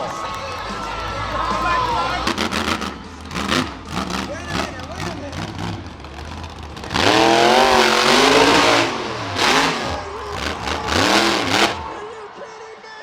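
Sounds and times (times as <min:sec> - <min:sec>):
monster truck engine revving: 0:00.0 - 0:12.2.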